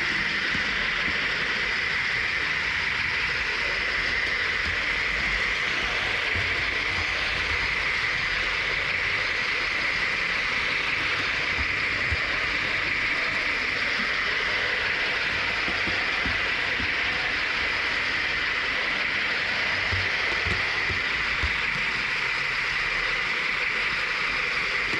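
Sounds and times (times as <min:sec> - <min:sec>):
model train running on track: 0:00.0 - 0:24.9.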